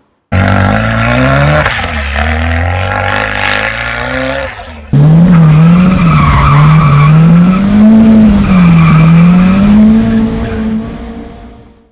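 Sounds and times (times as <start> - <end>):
turbocharged engine at high revs: 0.3 - 11.0.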